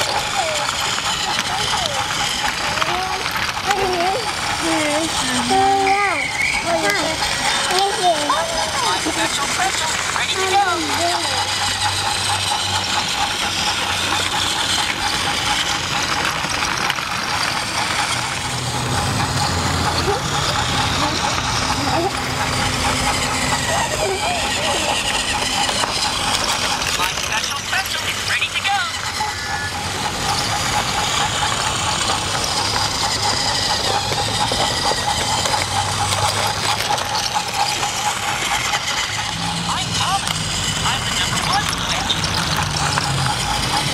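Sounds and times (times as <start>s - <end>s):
rattling hiss: 0.0s - 43.9s
toy train motor whirring: 0.0s - 43.9s
wheels and gears clicking: 0.0s - 43.9s.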